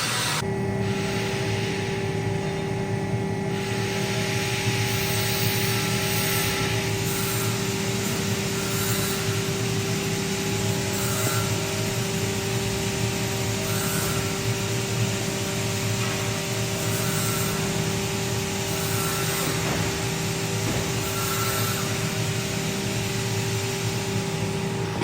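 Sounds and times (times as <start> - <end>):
bending machine low hum: 0.0 - 25.0
drive whine: 0.0 - 25.0
mechanical hiss: 3.4 - 25.0.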